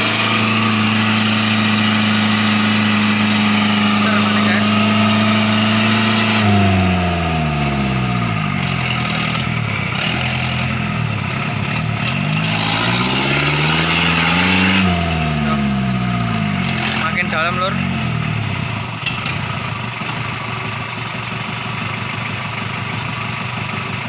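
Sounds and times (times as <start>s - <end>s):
vehicle engine revving: 0.0s - 23.9s.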